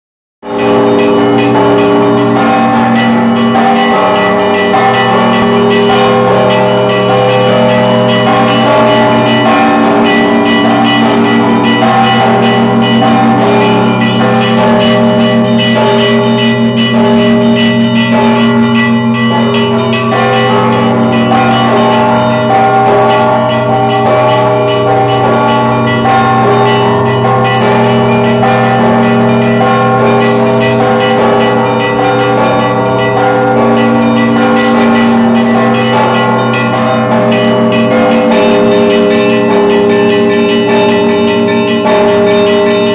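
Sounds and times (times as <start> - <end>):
large bells ringing: 0.4 - 42.9.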